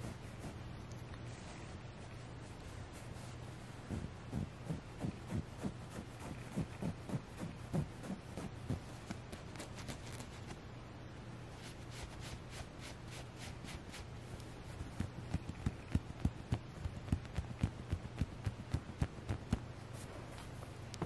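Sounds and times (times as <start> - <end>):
fingers scratching plush fabric: 0.0 - 0.9, 2.4 - 10.5, 11.6 - 20.1.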